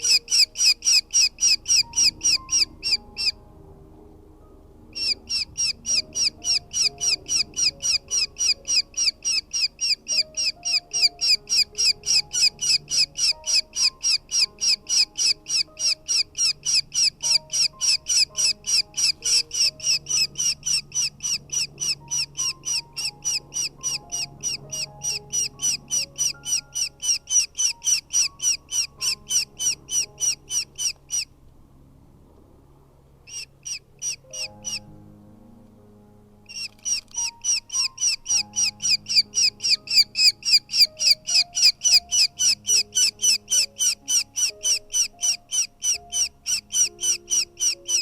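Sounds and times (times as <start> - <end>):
falcon chicks begging calls: 0.0 - 3.4, 4.9 - 31.3, 33.3 - 34.9, 36.5 - 48.0
faint background music: 0.0 - 48.0.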